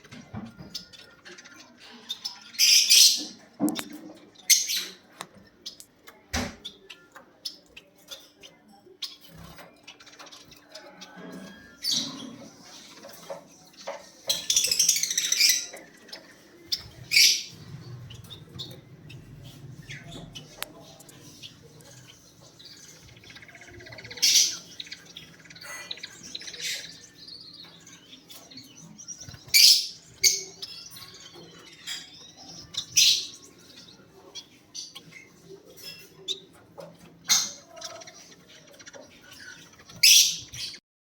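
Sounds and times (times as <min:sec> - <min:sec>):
lovebirds squawking: 0:00.0 - 0:05.8, 0:09.0 - 0:40.8
bird chirps: 0:00.0 - 0:40.8.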